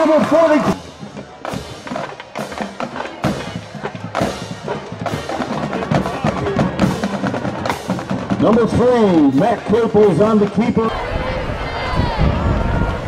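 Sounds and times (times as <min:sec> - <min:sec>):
music with steady drum beat: 0:00.0 - 0:10.7.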